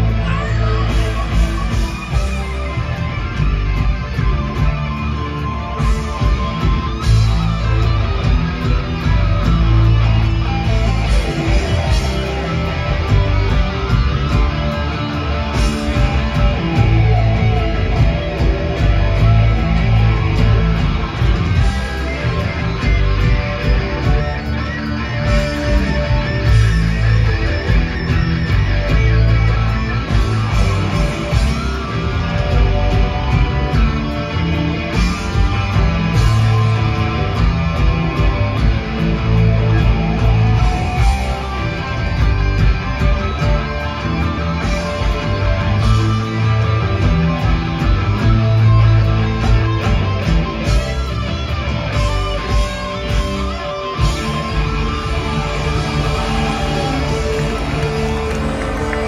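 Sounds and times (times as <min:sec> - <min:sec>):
bass guitar: 0:00.0 - 0:59.0
drums with steady beat: 0:00.0 - 0:59.0
electric guitars: 0:00.0 - 0:59.0
live rock band playing: 0:00.0 - 0:59.0.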